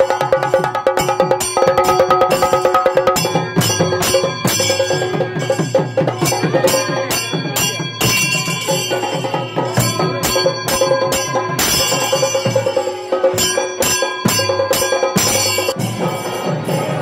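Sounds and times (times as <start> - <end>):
cymbal or bell strikes: 0.0 - 17.0
rapid drum strikes: 0.0 - 17.0.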